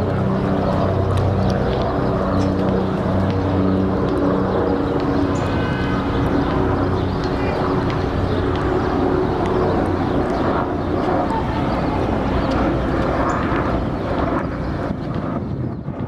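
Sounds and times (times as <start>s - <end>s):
traffic rumble: 0.0s - 15.5s.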